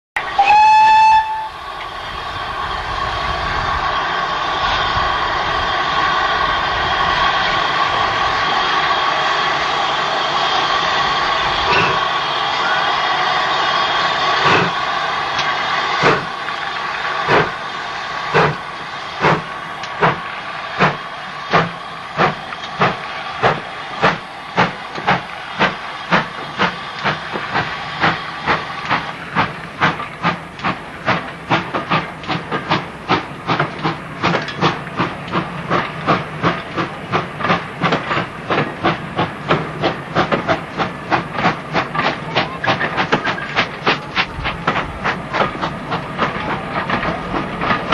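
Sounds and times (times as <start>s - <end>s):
steam hissing: 0.2s - 47.9s
steam locomotive exhaust beats: 0.2s - 47.9s.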